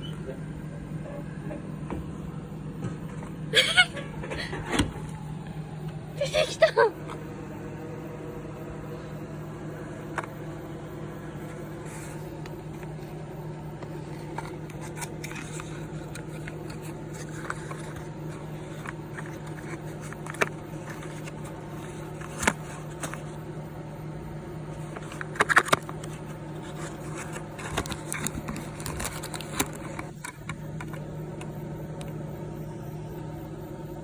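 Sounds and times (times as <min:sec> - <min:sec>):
vending machine humming: 0:00.0 - 0:34.0.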